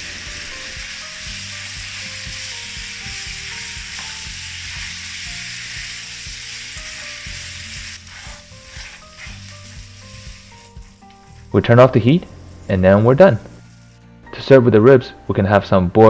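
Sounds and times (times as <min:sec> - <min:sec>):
sauce boiling: 0:00.0 - 0:14.1
ribs sizzling in a pan: 0:00.0 - 0:14.6.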